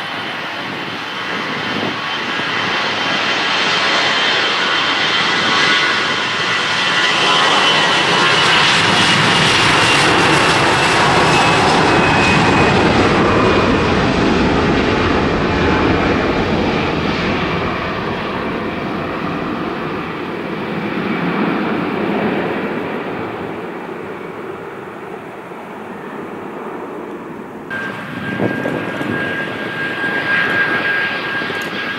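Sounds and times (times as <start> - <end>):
jet engine roar and whine: 0.0 - 31.9.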